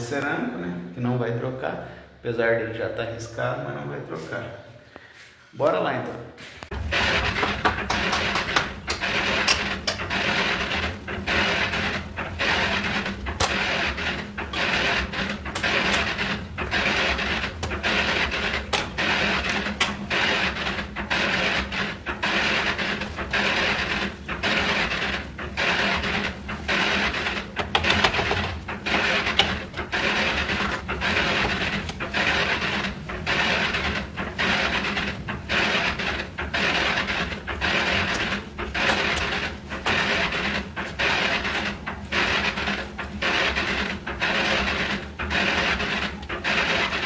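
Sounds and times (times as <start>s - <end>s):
electric saw cutting wood: 6.7s - 47.0s.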